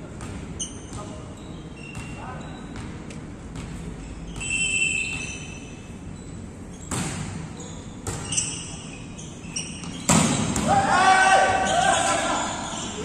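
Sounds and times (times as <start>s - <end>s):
sneakers squeaking on court floor: 0.0s - 10.8s, 11.4s - 13.0s.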